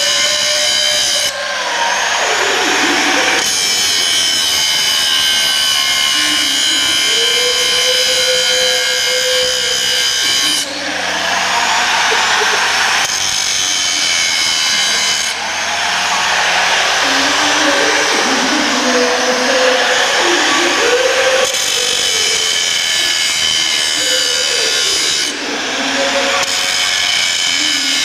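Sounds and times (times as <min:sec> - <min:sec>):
angle grinder cutting metal: 0:00.0 - 0:28.0.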